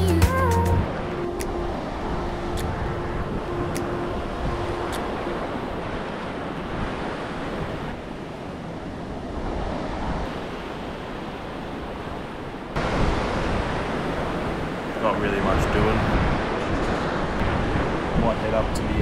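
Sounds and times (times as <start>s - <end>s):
small waves breaking: 0.8s - 19.0s
wind buffeting microphone: 0.8s - 19.0s.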